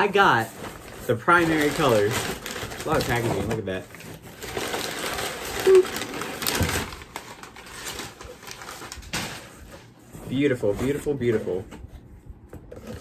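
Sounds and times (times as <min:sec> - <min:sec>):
packing material rustling: 0:00.0 - 0:13.0.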